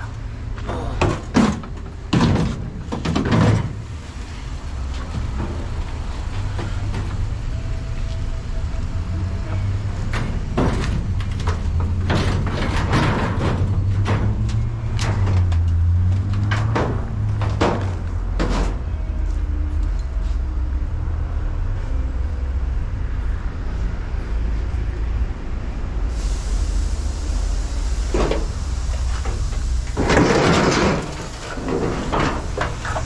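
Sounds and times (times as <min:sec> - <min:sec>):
vehicle engine rumble: 0:00.0 - 0:33.0.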